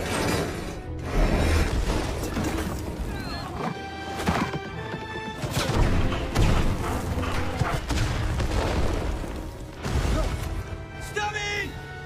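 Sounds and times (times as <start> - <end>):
battle film music: 0.0 - 12.0.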